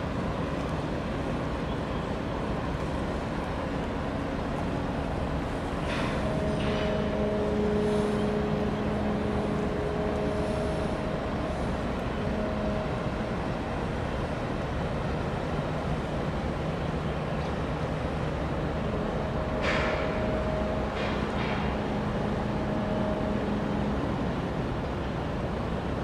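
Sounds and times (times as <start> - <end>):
droning hum: 0.0 - 26.0
ship engine rumble: 0.0 - 26.0.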